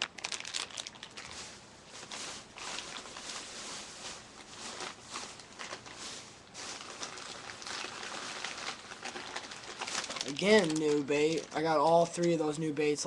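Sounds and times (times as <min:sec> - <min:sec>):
plastic packages crinkling: 0:00.0 - 0:12.7.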